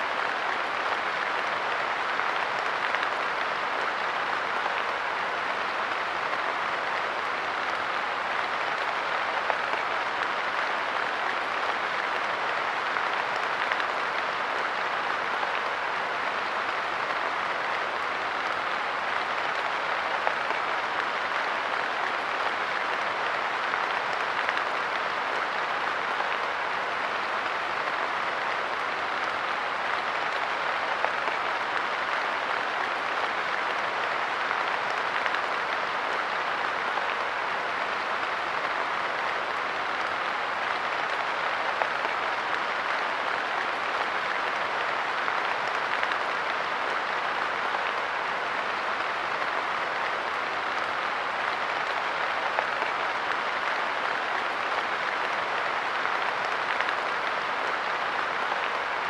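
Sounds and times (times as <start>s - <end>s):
light rain on a bench: 0.0s - 59.0s.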